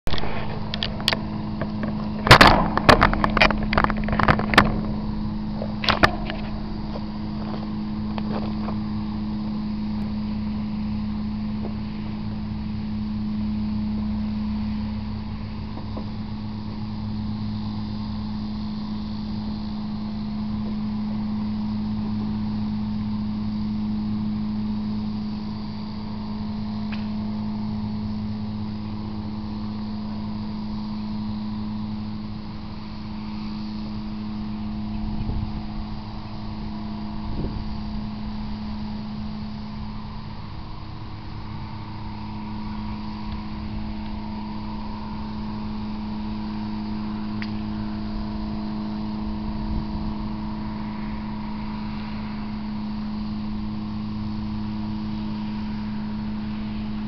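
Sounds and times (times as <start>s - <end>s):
motor hum with rumble: 0.0s - 57.0s.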